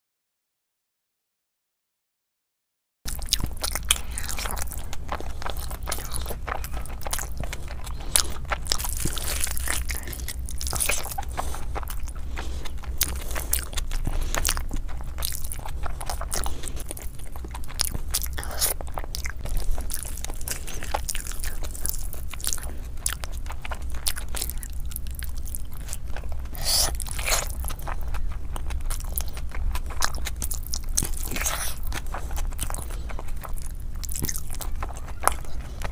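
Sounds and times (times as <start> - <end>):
person chewing: 3.1 - 35.9
low hum: 3.2 - 35.9.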